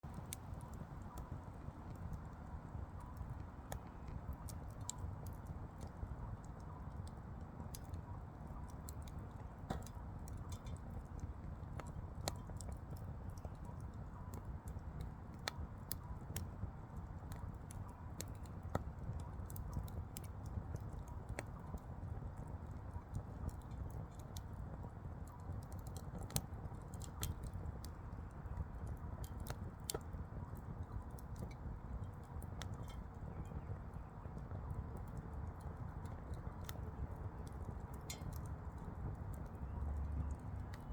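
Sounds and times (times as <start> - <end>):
firewood crackling and popping: 0.0 - 40.9
low rumble of flames: 0.0 - 40.9.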